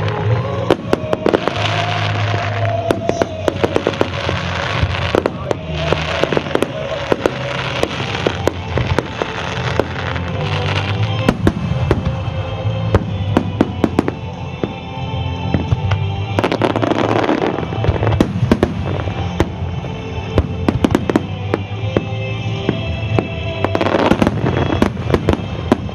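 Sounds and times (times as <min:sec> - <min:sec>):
dense fireworks crackling: 0:00.0 - 0:25.9
fireworks bursting with sharp bangs: 0:00.0 - 0:25.9
music: 0:00.0 - 0:25.9.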